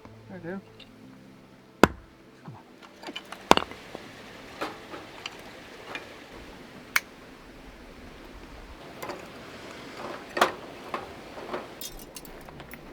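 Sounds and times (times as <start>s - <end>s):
faint steady hiss: 0.0s - 12.9s.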